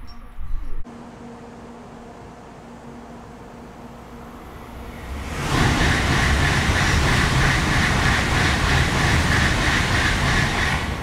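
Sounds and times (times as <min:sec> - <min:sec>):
high-speed train passing: 0:00.2 - 0:11.0.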